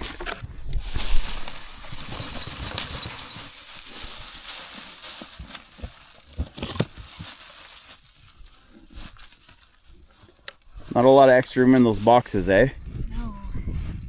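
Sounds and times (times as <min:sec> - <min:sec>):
rustling handling noise: 0:00.0 - 0:13.1.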